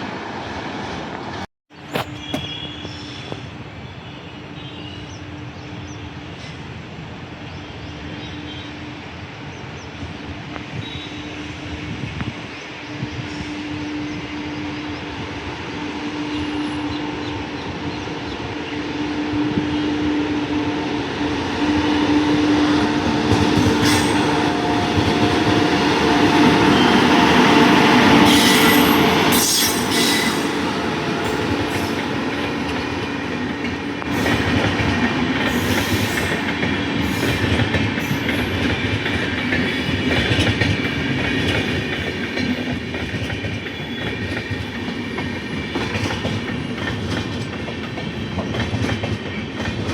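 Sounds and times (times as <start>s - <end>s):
train passing: 0.0s - 49.9s.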